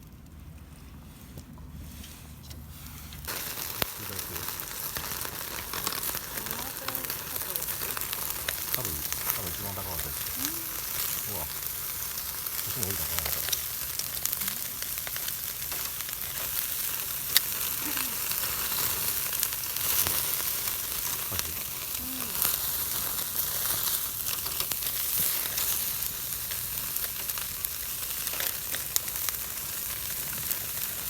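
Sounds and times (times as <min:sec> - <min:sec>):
meat sizzling on a grill: 0:03.2 - 0:31.0.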